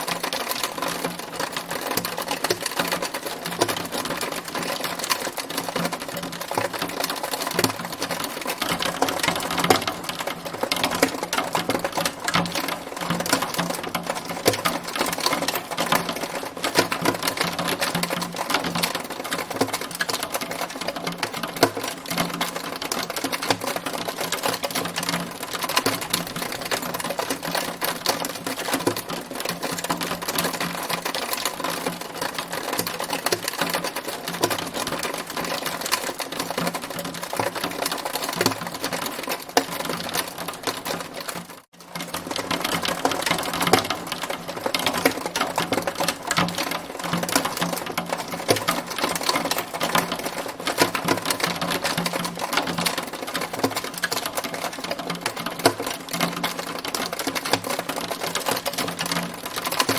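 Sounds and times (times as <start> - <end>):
hailstones pelting hard surface: 0.0 - 59.9.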